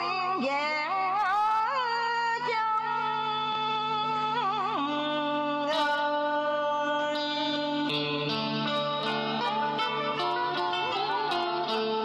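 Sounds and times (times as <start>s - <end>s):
karaoke backing track: 0.0s - 12.0s
person singing a ballad: 0.0s - 12.0s.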